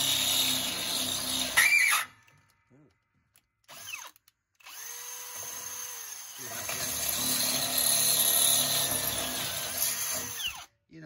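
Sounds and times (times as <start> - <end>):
cordless drill drilling metal: 0.0 - 2.2, 3.6 - 10.7.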